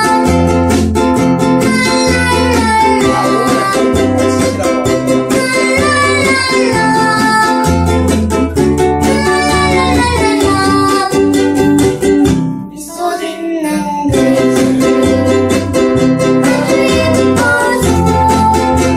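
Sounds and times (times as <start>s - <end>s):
person singing: 0.0s - 0.6s, 1.6s - 7.9s, 9.0s - 11.6s, 12.7s - 18.9s
ukulele and guitar strumming: 0.0s - 18.9s.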